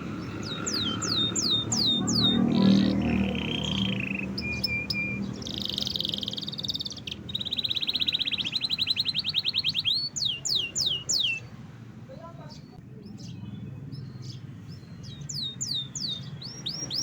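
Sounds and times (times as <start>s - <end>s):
canary singing trills: 0.0s - 11.6s, 12.2s - 17.0s.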